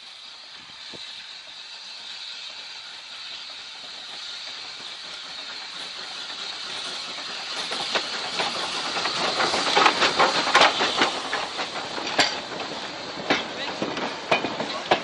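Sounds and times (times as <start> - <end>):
steam hiss: 0.0 - 15.0
train wheels clicking over rail joints: 0.0 - 15.0.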